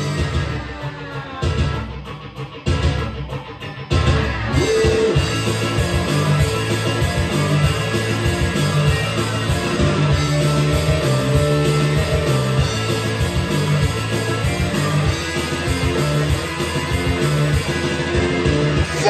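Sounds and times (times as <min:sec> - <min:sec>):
rock music through speakers: 0:00.0 - 0:19.0.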